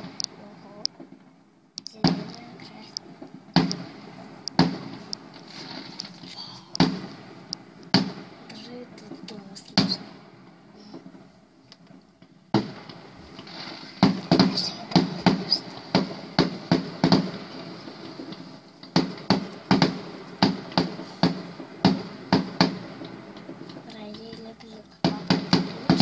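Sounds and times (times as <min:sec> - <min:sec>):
aerial fireworks bursting: 0:00.0 - 0:26.0.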